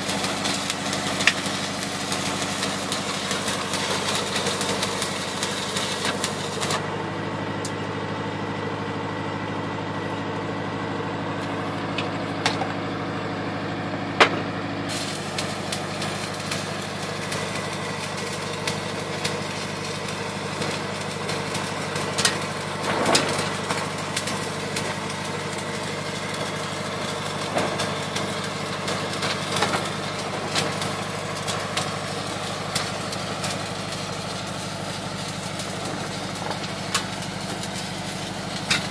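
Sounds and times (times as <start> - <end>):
sharp welding pops: 0.0 - 6.9, 14.2 - 38.9
welding arc crackling and hissing: 0.0 - 7.8, 14.9 - 38.9
engine running steadily: 0.0 - 38.9.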